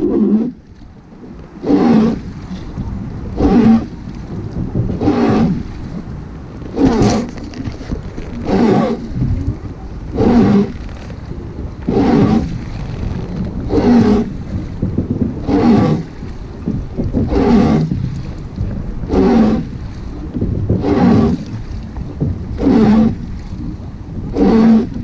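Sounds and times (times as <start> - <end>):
wooden oar creaking: 0.0 - 25.0.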